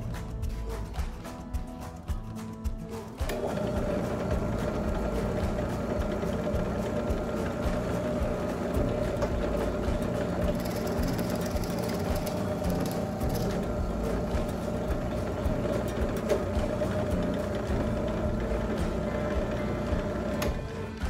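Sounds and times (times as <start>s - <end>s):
drill press stripping bark off stick: 3.2s - 21.0s.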